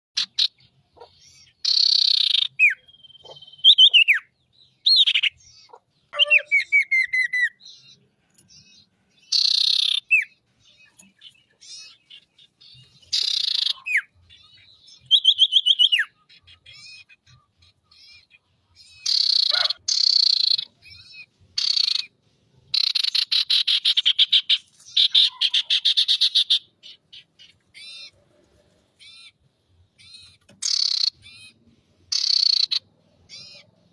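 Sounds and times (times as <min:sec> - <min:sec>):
bird singing varied song: 0:00.2 - 0:33.9.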